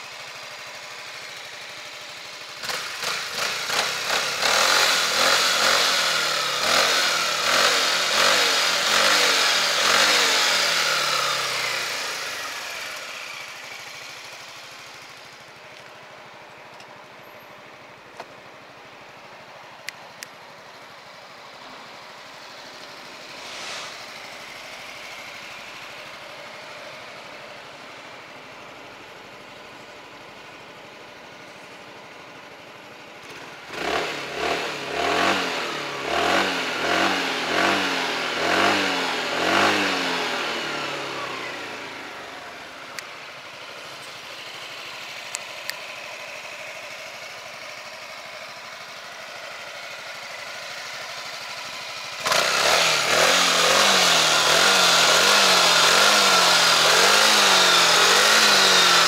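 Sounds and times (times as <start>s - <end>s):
scooter engine revving and idling: 0.0s - 59.0s.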